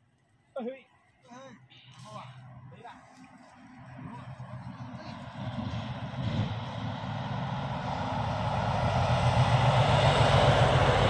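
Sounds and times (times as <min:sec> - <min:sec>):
vehicle engine passing: 0:01.7 - 0:11.0.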